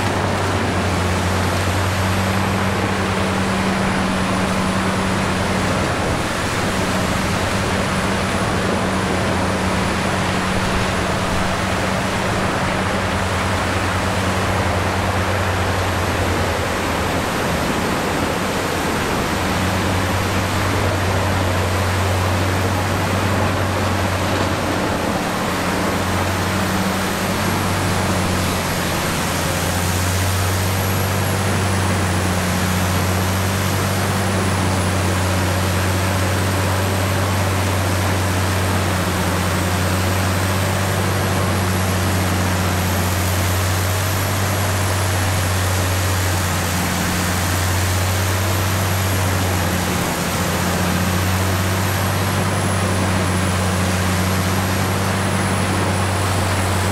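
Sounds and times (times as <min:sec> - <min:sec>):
deep engine hum: 0:00.0 - 0:56.9
wood grinder running: 0:00.0 - 0:56.9.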